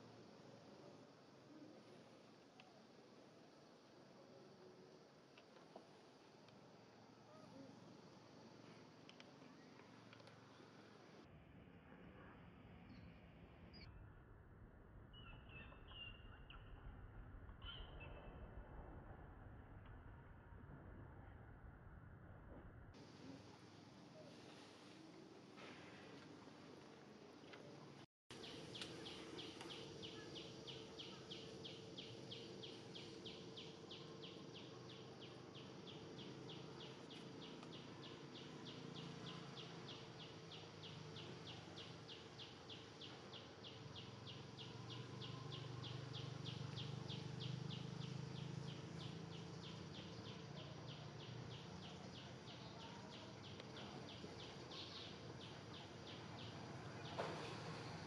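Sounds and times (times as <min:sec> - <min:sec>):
faint low hum: 0:00.0 - 0:58.0.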